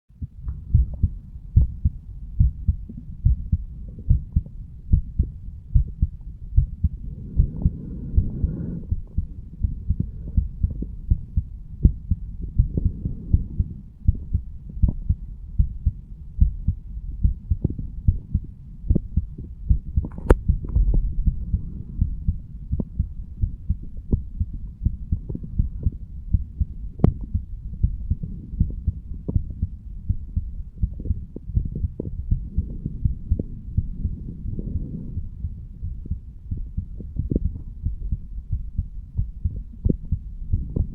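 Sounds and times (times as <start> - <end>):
heartbeat: 0.1 - 40.9.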